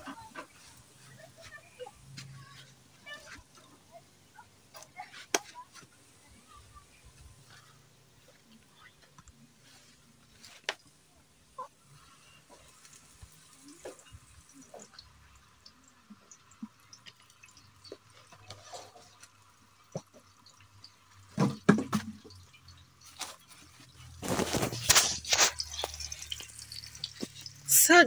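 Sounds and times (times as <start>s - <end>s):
oil trickling into metal pot: 4.6s - 28.0s.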